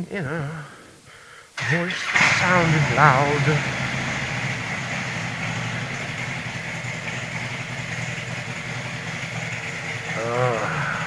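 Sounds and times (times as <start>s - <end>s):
motorcycle engine running steadily: 1.6s - 11.0s.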